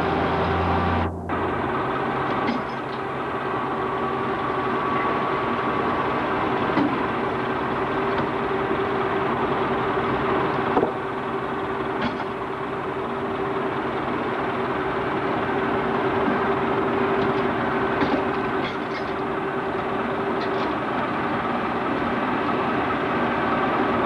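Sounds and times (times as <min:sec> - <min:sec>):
mechanical running hum: 0:00.0 - 0:24.0.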